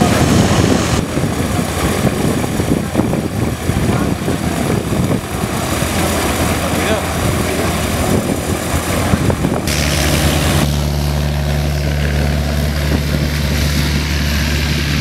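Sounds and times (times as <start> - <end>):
propeller aircraft engine droning: 0.0 - 15.0.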